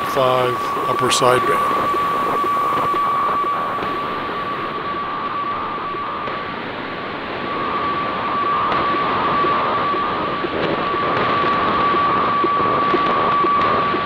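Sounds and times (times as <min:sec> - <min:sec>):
radio hiss: 0:00.0 - 0:14.0
steady radio tone: 0:00.0 - 0:14.0.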